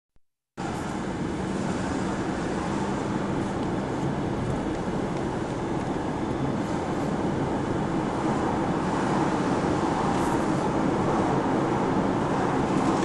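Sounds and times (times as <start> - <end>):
car engine and road noise: 0.6 - 13.0.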